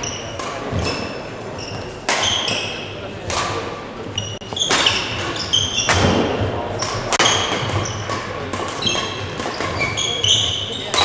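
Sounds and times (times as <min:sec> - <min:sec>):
racket hitting shuttlecock: 0:00.0 - 0:01.2, 0:02.0 - 0:11.0
shoes squeaking on court floor: 0:00.0 - 0:11.0.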